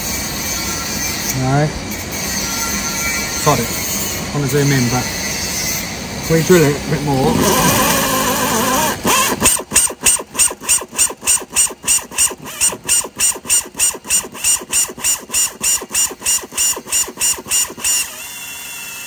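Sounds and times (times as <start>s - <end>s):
power drill boring: 2.6s - 19.0s.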